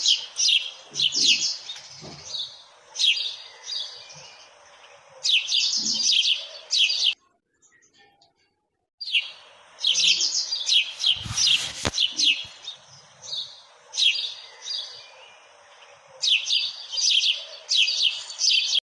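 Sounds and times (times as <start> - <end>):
sparrows chirping: 0.0 - 8.4, 9.0 - 18.8.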